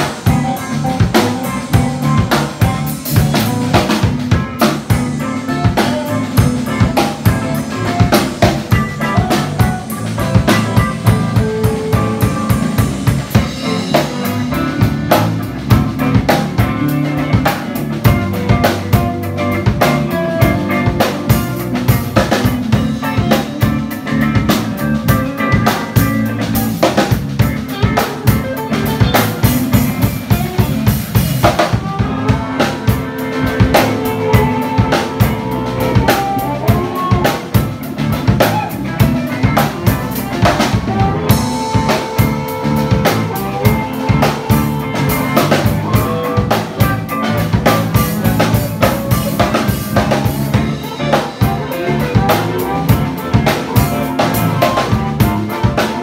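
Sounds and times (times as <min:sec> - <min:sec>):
drum kit playing busy beat: 0:00.0 - 0:56.0
electric guitars: 0:00.0 - 0:56.0.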